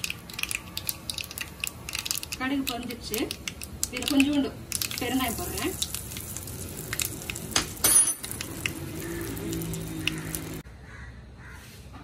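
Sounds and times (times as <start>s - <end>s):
hot oil sizzling and crackling: 0.0s - 10.6s.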